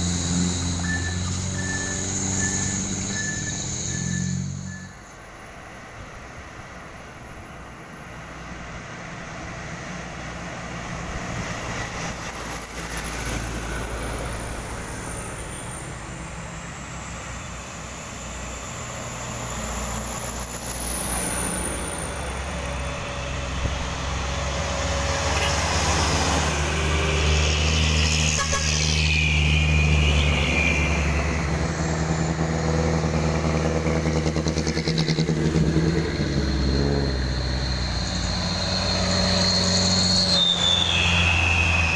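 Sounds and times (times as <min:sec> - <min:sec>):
buses driving past: 0:00.0 - 0:41.9.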